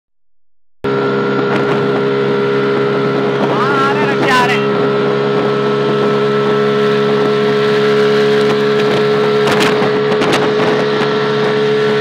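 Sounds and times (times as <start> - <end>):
auto-rickshaw engine droning: 0.9 - 12.0.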